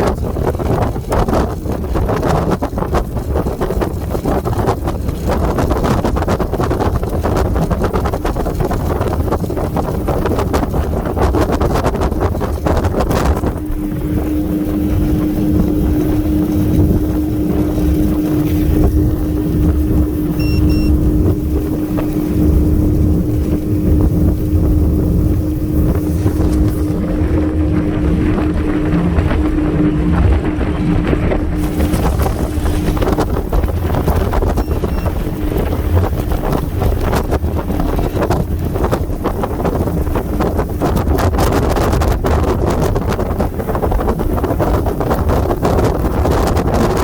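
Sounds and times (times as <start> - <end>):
outboard engines running: 0.0 - 47.0
wind noise on microphone: 0.0 - 47.0.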